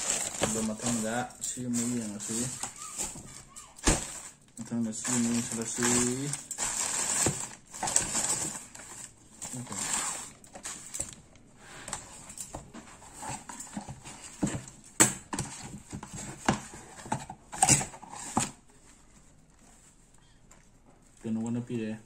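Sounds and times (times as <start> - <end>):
packaging rustling and crinkling: 0.0 - 21.8.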